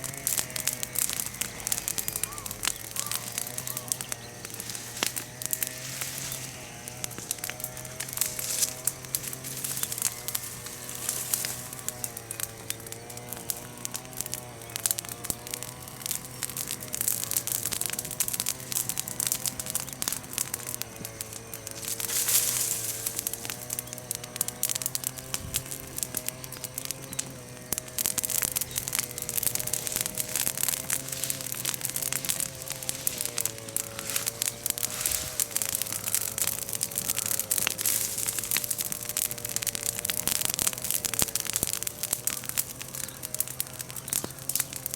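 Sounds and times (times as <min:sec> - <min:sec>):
bonfire crackling and popping: 0:00.0 - 0:44.9
fire hissing flare-up: 0:00.0 - 0:44.9.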